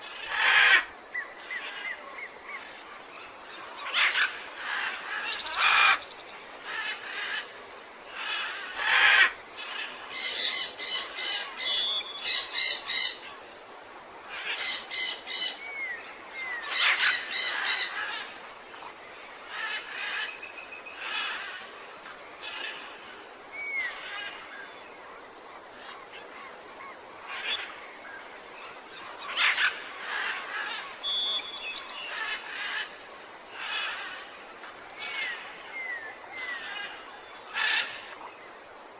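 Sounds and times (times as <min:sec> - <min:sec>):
steady forest background: 0:00.0 - 0:38.9.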